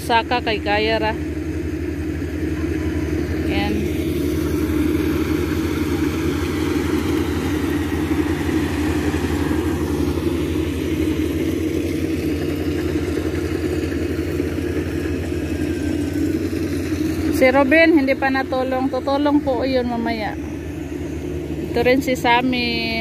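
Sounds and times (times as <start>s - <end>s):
combine harvester engine droning: 0.0s - 23.0s.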